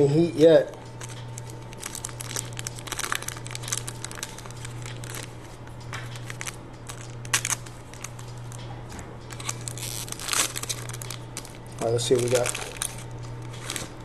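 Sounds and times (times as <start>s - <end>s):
steady low hum: 0.0s - 14.0s
foil wrappers crinkling: 0.4s - 14.0s.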